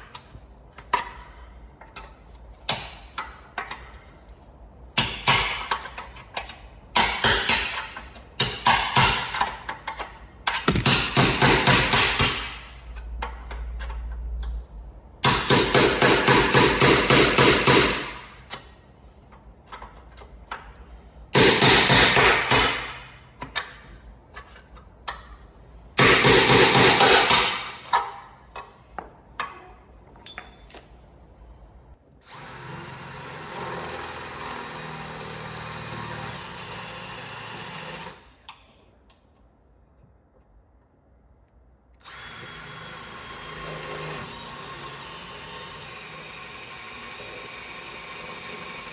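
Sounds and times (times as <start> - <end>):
steady quiet hum: 0.0 - 48.9.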